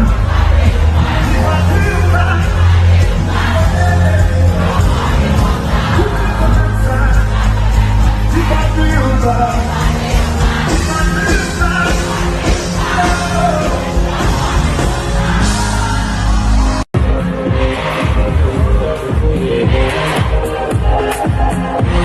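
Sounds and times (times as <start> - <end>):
afrobeats music with singing: 0.0 - 22.0
crowd yelling along: 0.0 - 22.0
heavy bass line: 0.0 - 22.0.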